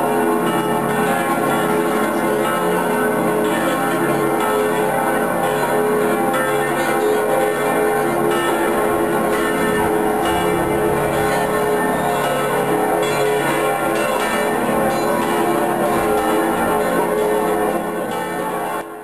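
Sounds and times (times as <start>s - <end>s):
church bells pealing: 0.0s - 19.0s.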